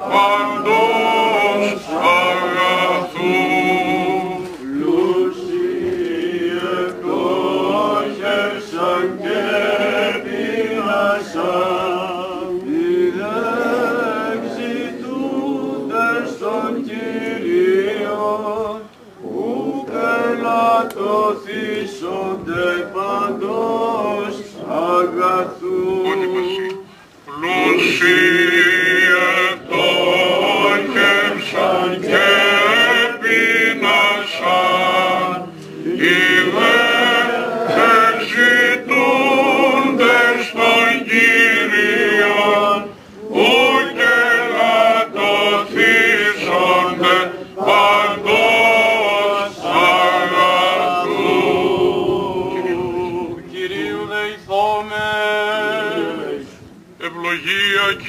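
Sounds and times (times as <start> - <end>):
men chanting a hymn: 0.0 - 58.0.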